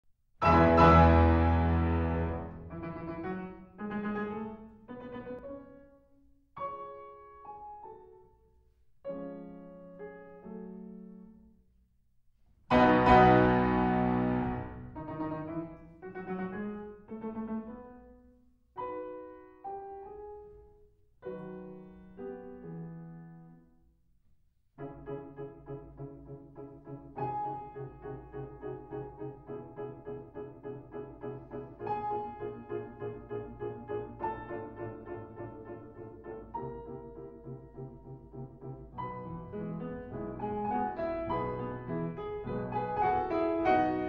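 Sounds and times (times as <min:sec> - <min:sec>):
slow solo piano: 0:00.4 - 0:11.6, 0:12.7 - 0:23.8, 0:24.8 - 0:44.0.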